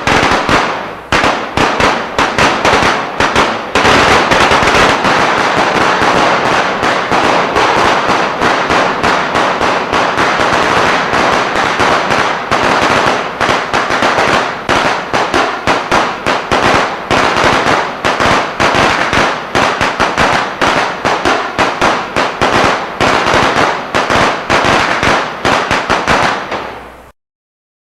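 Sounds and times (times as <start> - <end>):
firecrackers crackling and popping: 0.0 - 27.1.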